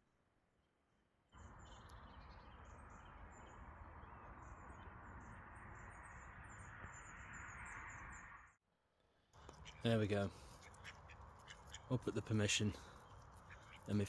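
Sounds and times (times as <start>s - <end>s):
small birds chirping: 1.3s - 8.5s, 9.2s - 14.0s.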